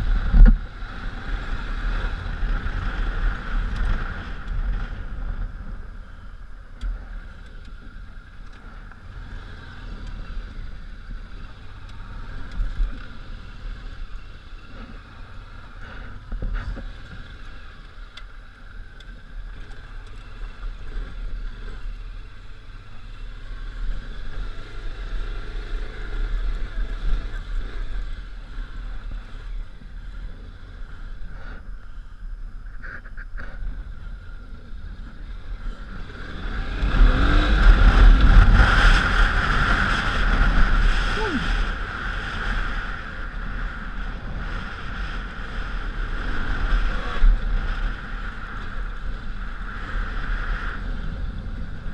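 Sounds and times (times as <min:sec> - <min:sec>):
motorcycle engine rumbling: 0:00.0 - 0:51.9.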